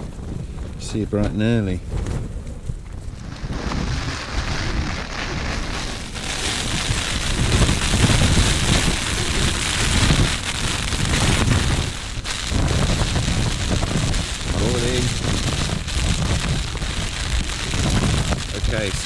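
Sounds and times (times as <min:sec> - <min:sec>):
heavy rain on tent: 0:00.0 - 0:00.2, 0:02.6 - 0:19.0
gusting wind: 0:00.0 - 0:19.0.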